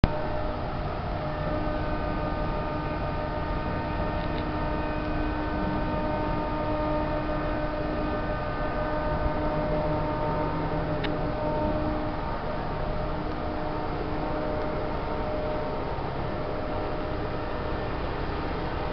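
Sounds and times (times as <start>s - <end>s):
machine humming: 0.0s - 18.9s.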